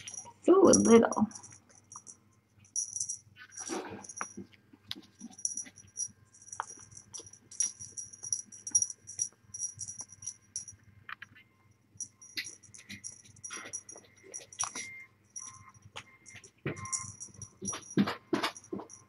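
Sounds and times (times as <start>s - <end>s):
small bell toy jingling: 0.0s - 4.4s, 5.2s - 10.7s, 12.0s - 19.0s.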